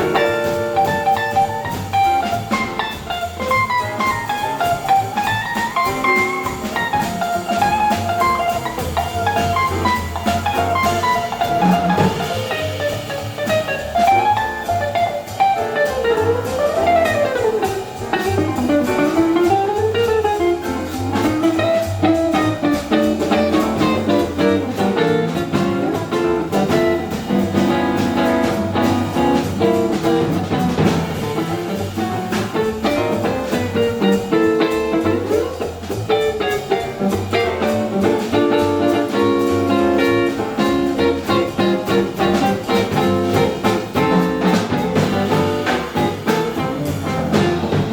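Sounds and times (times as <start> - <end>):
double bass line: 0.0 - 47.9
drums: 0.0 - 47.9
guitar: 0.0 - 47.9
piano: 0.0 - 47.9.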